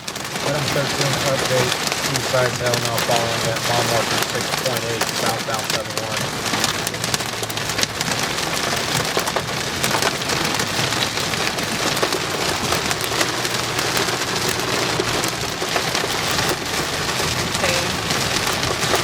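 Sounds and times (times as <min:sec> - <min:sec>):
hailstones ticking: 0:00.0 - 0:19.0
low road hum: 0:00.0 - 0:19.0
rain on vehicle roof: 0:00.0 - 0:19.0.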